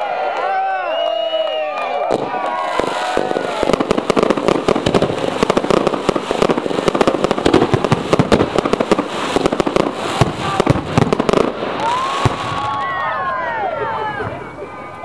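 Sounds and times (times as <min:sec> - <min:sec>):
fireworks crackling and popping: 0:01.1 - 0:15.0.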